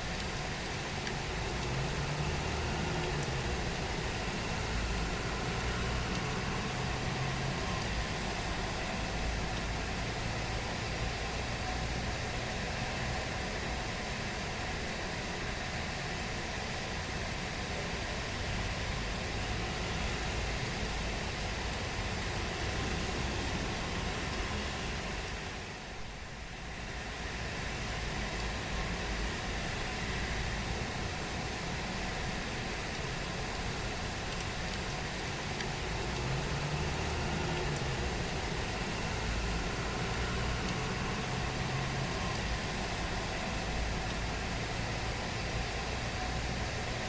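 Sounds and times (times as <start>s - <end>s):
heavy rain falling: 0.0s - 47.0s
low mechanical hum: 0.0s - 47.0s.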